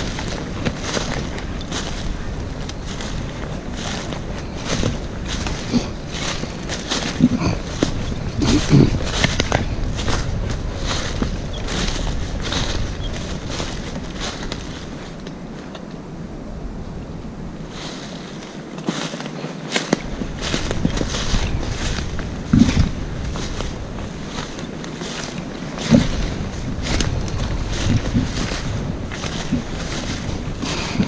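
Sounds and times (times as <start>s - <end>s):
short rustles and crackles: 0.0s - 15.9s, 17.7s - 31.0s
wind buffeting microphone: 0.0s - 19.0s, 19.9s - 31.0s.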